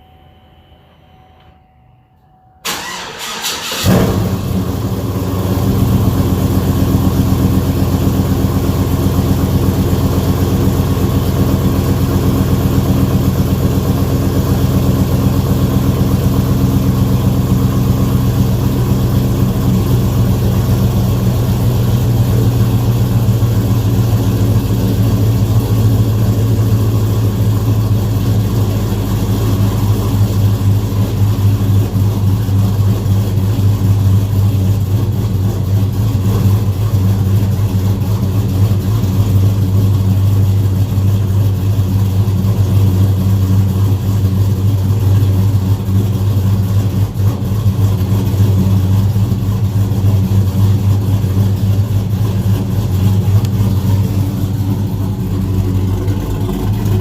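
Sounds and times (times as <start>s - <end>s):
engine idling: 2.6s - 57.0s.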